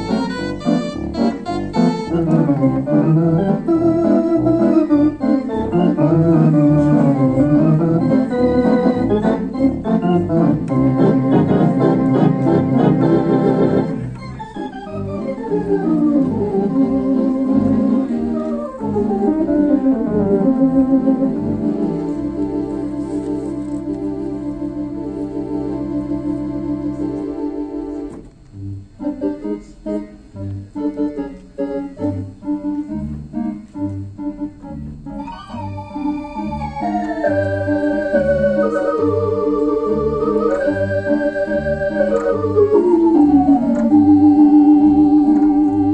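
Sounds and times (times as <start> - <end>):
theatre organ chords: 0.0 - 45.9.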